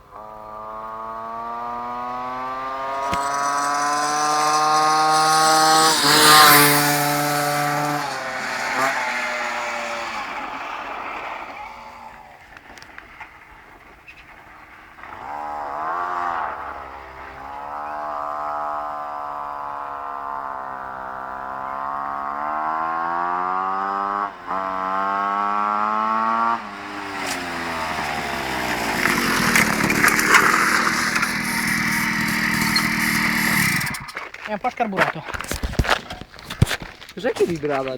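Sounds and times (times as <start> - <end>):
moped engine revving: 0.0 - 12.3, 14.7 - 34.5.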